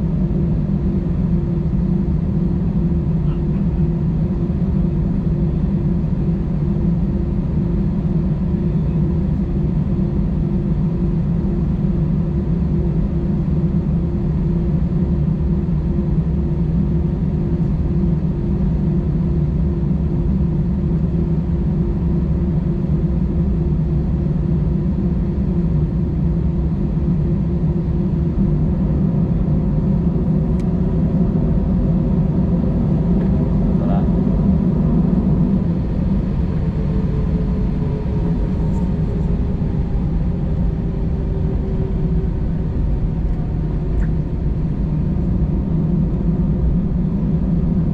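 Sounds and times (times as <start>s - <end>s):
aircraft cabin engine rumble: 0.0s - 47.9s.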